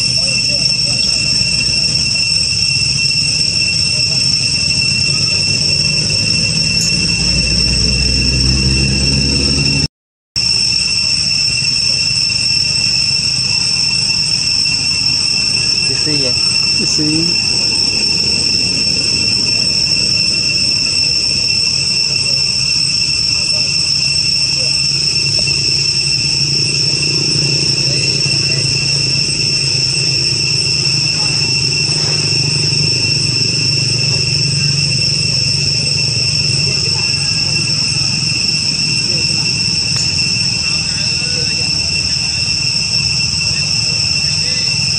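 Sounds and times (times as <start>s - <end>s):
low hum: 0.0s - 9.9s, 12.8s - 44.6s
forest insects droning: 0.0s - 44.9s.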